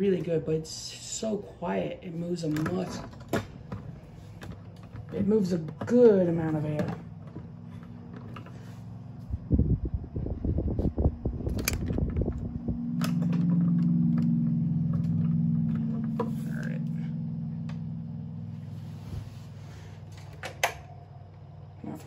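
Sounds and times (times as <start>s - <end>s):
desk fan motor hum: 0.0s - 22.0s.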